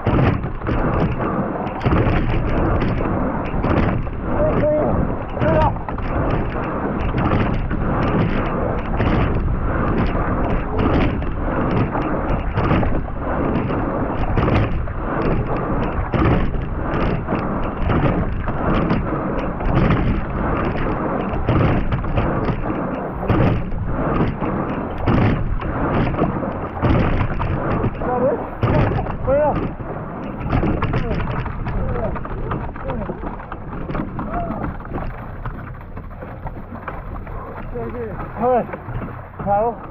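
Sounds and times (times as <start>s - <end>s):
oars knocking: 0.0s - 39.9s
water rushing along hull: 0.0s - 39.9s
wind buffeting microphone: 0.0s - 39.9s.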